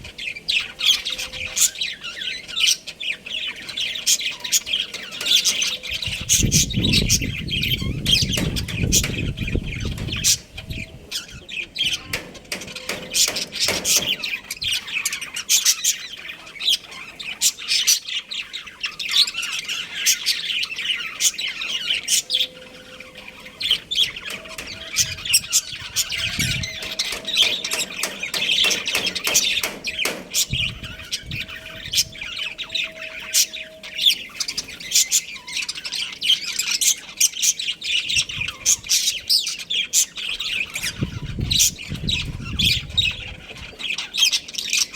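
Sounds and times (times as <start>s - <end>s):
budgerigars chirping: 0.0s - 44.9s.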